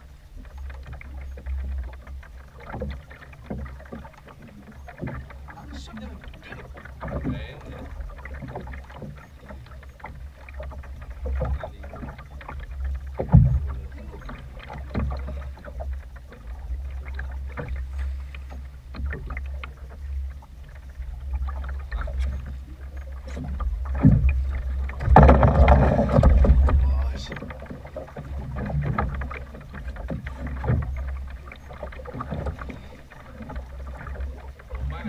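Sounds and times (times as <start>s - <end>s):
waves slapping boat hull: 0.0s - 35.0s
wind rumbling on microphone: 0.0s - 35.0s.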